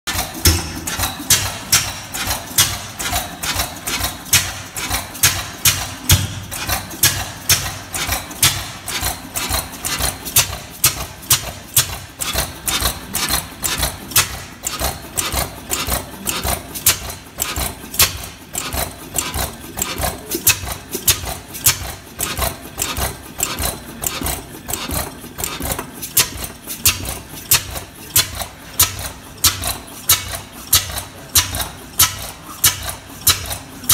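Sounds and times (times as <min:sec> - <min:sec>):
stationary engine running: 0:00.1 - 0:33.9.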